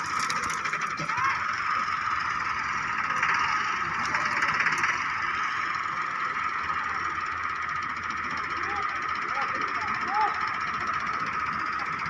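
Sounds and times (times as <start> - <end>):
tractor engine running hard: 0.0 - 12.0.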